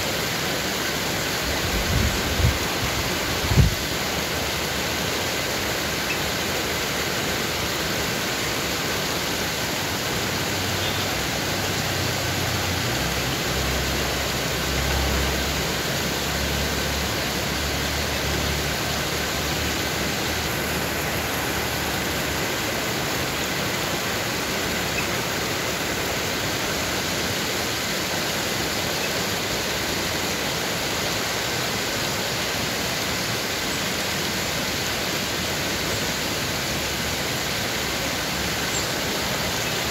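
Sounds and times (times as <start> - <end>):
waterfall over rocks: 0.0 - 39.9.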